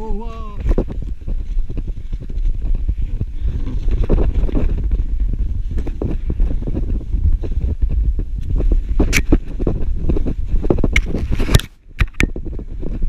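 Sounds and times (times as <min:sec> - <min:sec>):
wind buffeting microphone: 0:00.0 - 0:13.0
skis scraping through snow: 0:00.3 - 0:11.5.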